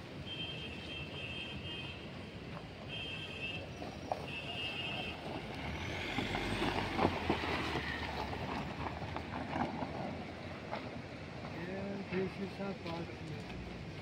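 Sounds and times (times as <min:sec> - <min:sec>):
car engine rumbling: 0:02.1 - 0:14.0
tyres crunching on gravel: 0:02.5 - 0:13.8.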